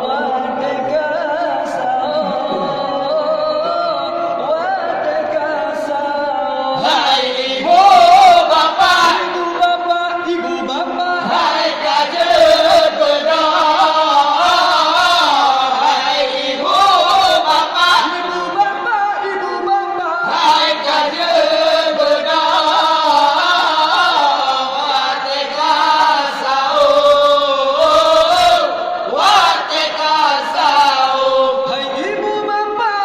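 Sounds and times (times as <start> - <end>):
young man singing a chant: 0.0 - 33.0.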